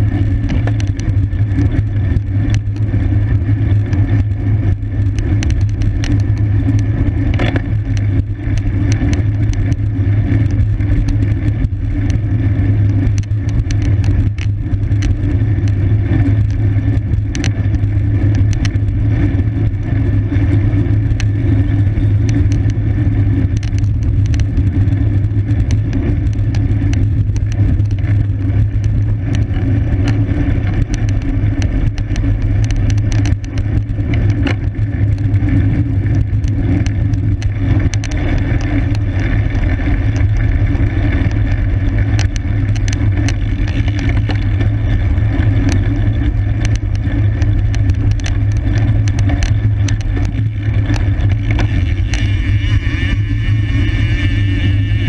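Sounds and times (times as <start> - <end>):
wind and tyre rumble: 0.0 - 55.0.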